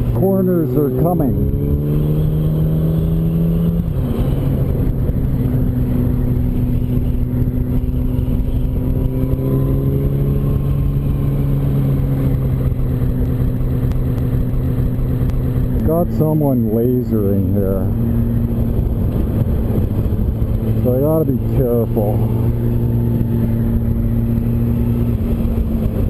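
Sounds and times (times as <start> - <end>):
motorcycle engine running: 0.0 - 26.0
wind noise: 1.2 - 26.0.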